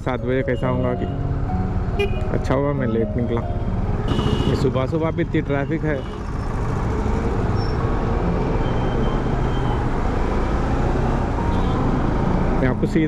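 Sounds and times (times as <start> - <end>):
surrounding traffic: 0.0 - 13.0.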